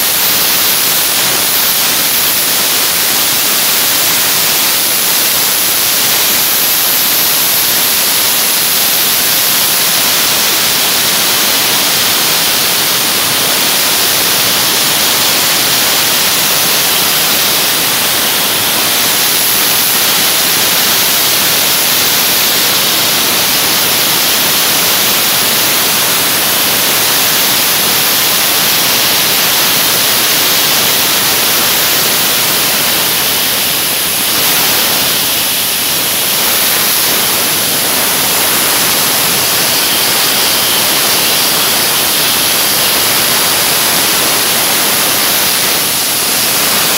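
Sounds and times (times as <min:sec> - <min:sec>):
dry ice blasting hiss: 0:00.0 - 0:46.9.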